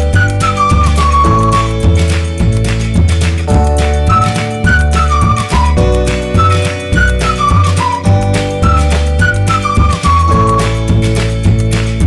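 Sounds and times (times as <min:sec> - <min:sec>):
cheerful music with beat and bass: 0:00.0 - 0:12.0.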